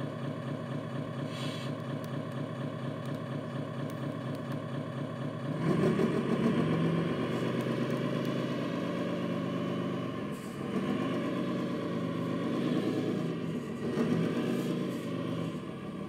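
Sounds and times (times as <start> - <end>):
diesel truck engine sound from speaker: 0.0 - 16.0.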